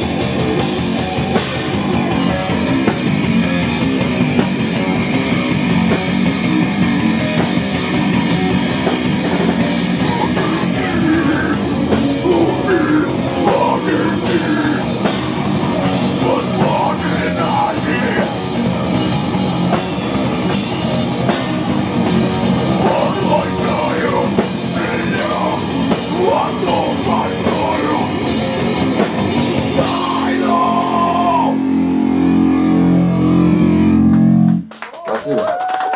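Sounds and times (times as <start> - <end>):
loud rock music: 0.0 - 34.7.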